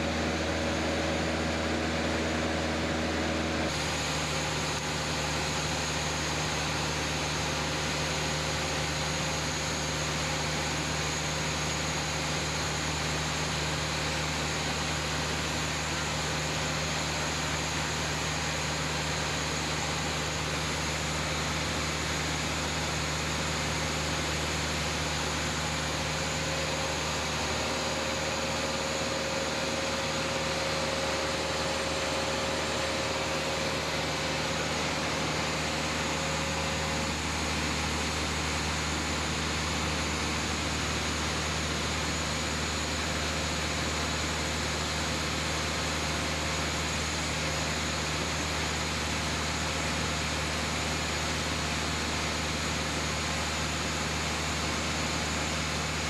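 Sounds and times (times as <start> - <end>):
airplane engine and propeller drone: 0.0 - 56.0.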